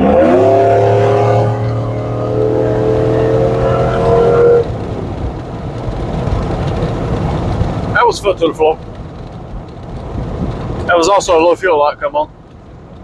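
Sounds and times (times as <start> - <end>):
pickup engine accelerating hard: 0.0 - 11.5.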